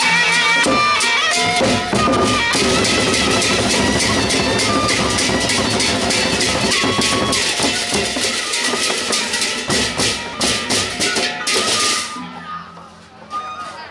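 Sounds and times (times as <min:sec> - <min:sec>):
clashing cymbals: 0:00.0 - 0:12.3
barrel drums: 0:00.0 - 0:12.6.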